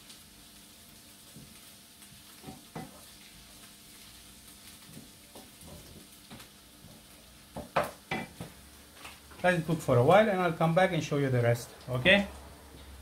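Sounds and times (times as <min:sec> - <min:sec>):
onions sizzling in frying pan: 0:00.0 - 0:13.0.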